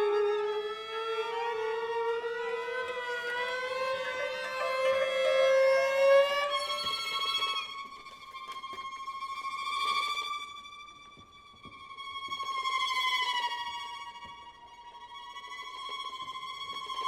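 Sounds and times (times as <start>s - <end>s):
instrumental score music: 0.0s - 17.0s.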